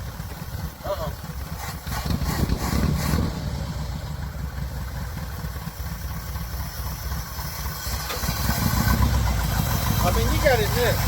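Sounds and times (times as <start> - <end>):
pickup truck engine idling unevenly: 0.0 - 2.0, 3.4 - 11.0.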